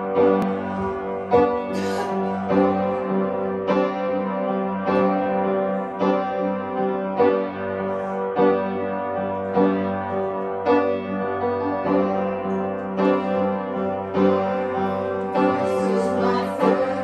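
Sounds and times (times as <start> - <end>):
upright piano chords ringing: 0.0 - 17.0.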